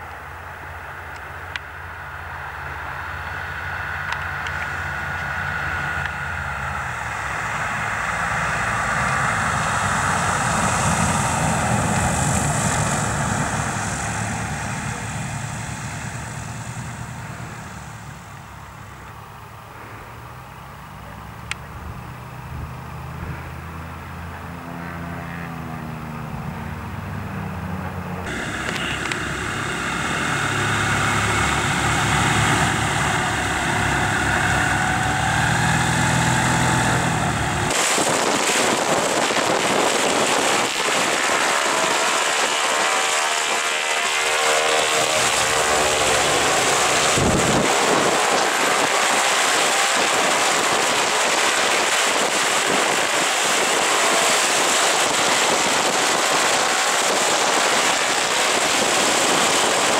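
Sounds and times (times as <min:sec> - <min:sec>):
piston aircraft engines running: 0:00.0 - 0:59.9.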